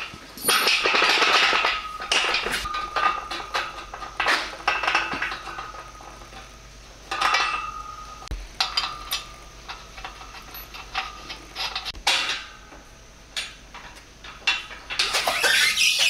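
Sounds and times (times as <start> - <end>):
metal hardware clanking: 0.0 - 6.5, 7.1 - 16.0.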